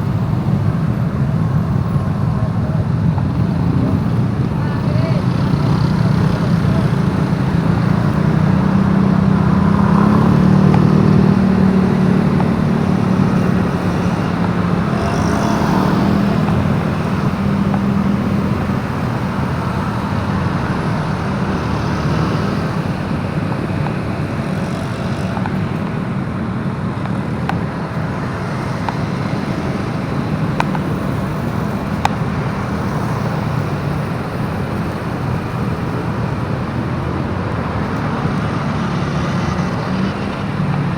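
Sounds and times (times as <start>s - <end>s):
motorbike engine drone: 0.0s - 40.9s
road noise: 0.0s - 40.9s.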